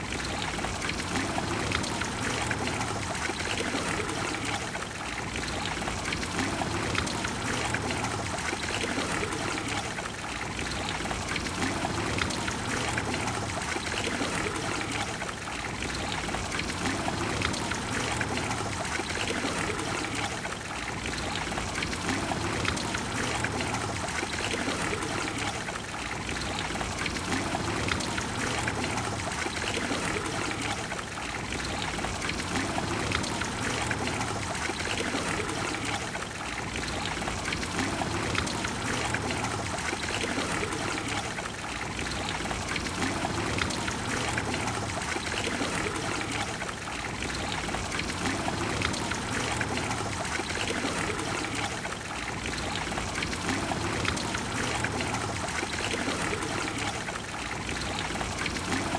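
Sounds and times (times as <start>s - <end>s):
fountain water splashing into basin: 0.0s - 58.9s.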